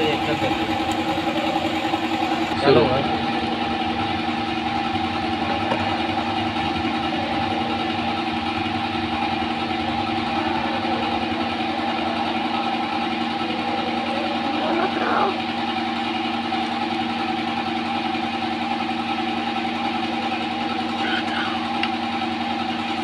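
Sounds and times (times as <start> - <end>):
workshop machinery humming: 0.0 - 23.0.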